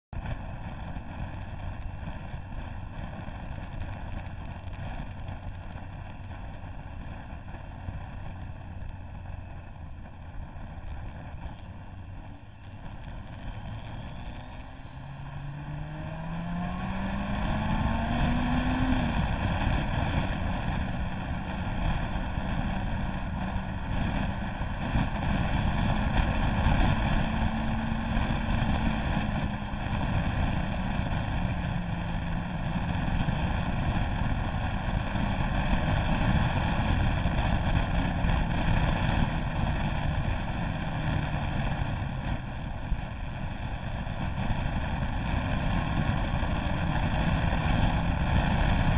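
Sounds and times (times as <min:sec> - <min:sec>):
motorcycle engine accelerating: 0:00.2 - 0:48.9
wind rush on microphone: 0:00.2 - 0:48.9.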